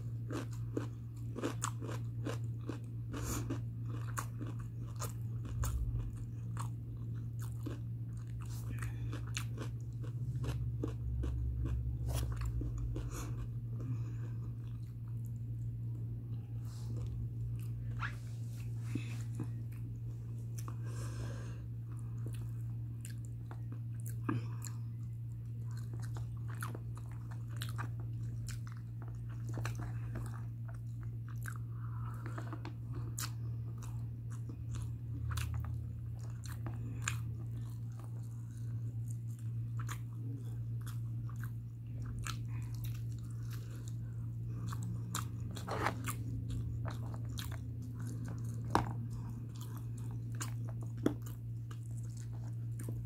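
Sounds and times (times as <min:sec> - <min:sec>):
chewing with wet mouth smacks: 0:00.0 - 0:20.9, 0:21.8 - 0:53.0
steady low hum: 0:00.0 - 0:53.0.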